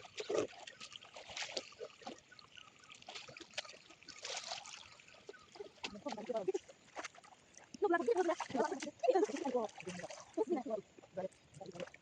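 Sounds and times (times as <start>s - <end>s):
hands splashing in stream: 0.0s - 10.6s
stream water trickling: 0.0s - 12.0s.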